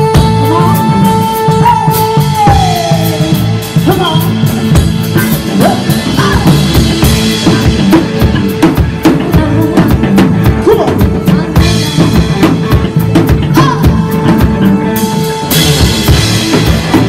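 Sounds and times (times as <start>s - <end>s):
vocals: 0.0s - 15.5s
live rock band playing: 0.0s - 17.0s.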